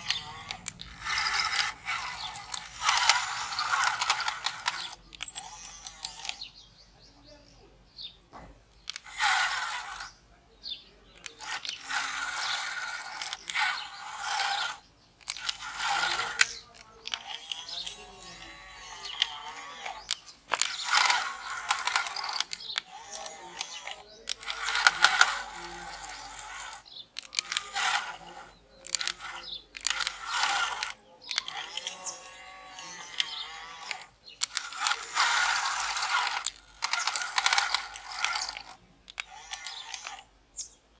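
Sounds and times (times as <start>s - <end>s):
toy motor and gears whirring: 0.0s - 6.6s, 8.8s - 40.8s.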